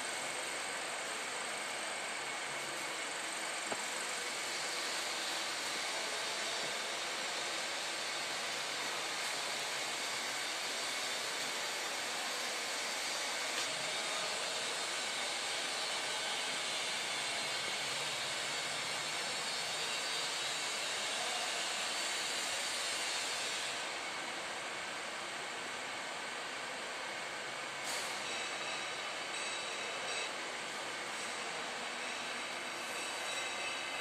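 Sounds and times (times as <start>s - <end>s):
machine shop background noise: 0.0s - 34.0s.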